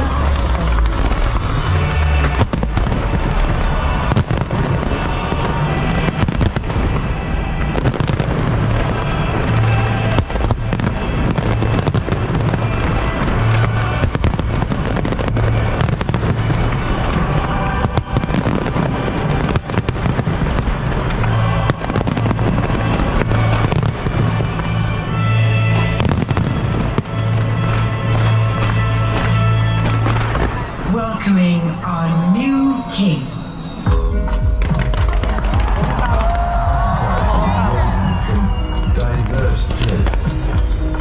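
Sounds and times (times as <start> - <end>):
music soundtrack: 0.0 - 41.0.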